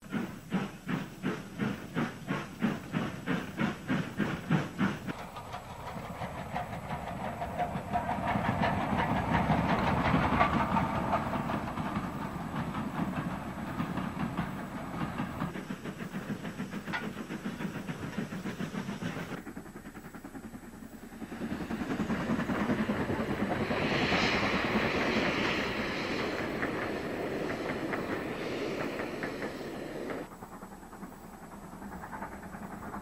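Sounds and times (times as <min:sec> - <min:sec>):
steam train running: 0:00.0 - 0:33.0.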